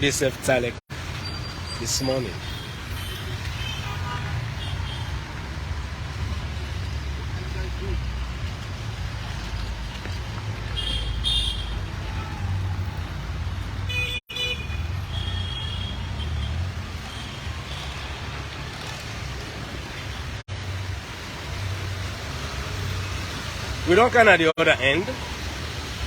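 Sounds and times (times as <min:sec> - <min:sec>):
traffic engines rumbling: 0:00.0 - 0:26.0.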